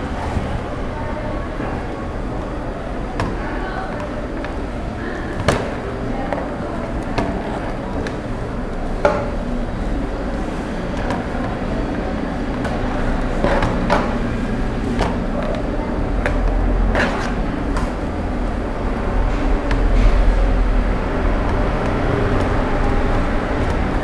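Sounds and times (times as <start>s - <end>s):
passing traffic rumble: 0.0s - 24.0s
room noise: 0.0s - 24.0s.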